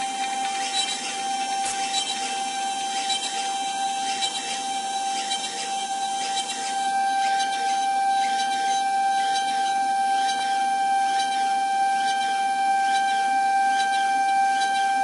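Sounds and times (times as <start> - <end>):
router spindle whining: 0.0 - 15.0.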